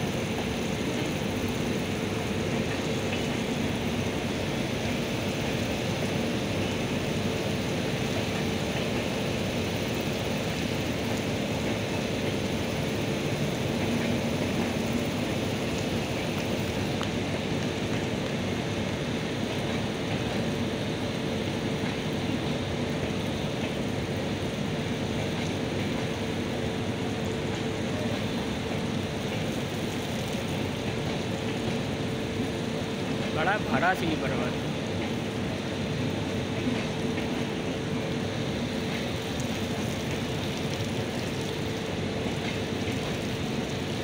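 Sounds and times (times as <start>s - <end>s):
train wheels rumbling on rails: 0.0s - 40.5s, 41.9s - 44.0s.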